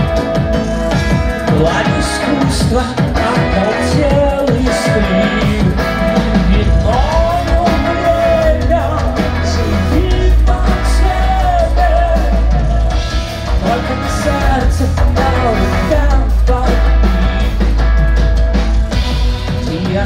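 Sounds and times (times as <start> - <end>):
person singing: 0.0 - 17.7, 19.5 - 20.0
bass guitar: 0.0 - 20.0
drums: 0.0 - 20.0
electric guitar: 0.0 - 20.0.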